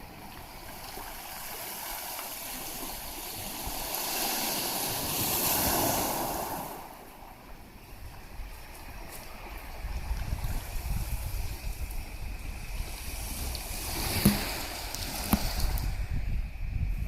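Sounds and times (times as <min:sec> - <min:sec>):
wave washing up shore: 0:00.0 - 0:07.4, 0:09.0 - 0:16.2.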